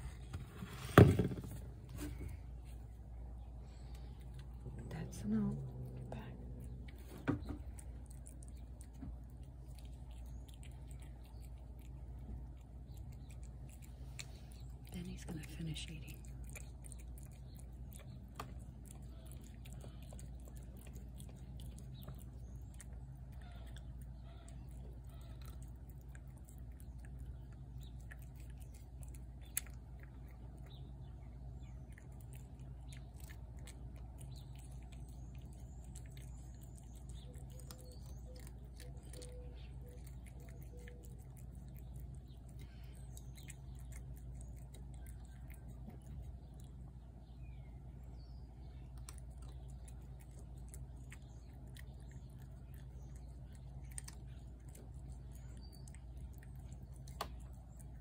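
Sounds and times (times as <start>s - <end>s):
cat chewing wet food: 0.0s - 58.0s
low hum: 0.0s - 58.0s.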